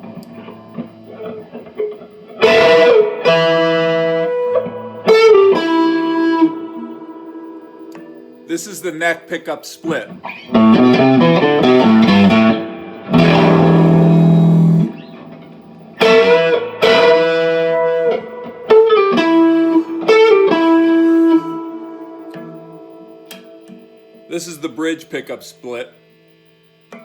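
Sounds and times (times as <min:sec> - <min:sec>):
electric guitar playing: 0:00.0 - 0:26.1.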